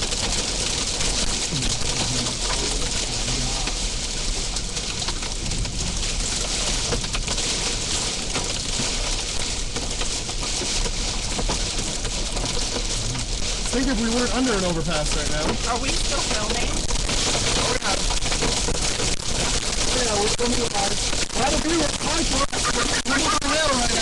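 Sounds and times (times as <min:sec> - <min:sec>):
hailstones striking: 0:00.0 - 0:24.0
heavy rain on vehicle: 0:00.0 - 0:24.0.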